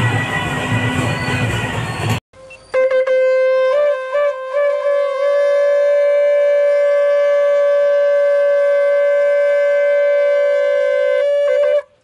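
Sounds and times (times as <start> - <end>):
horn trumpets blowing long note: 0.0 - 12.0.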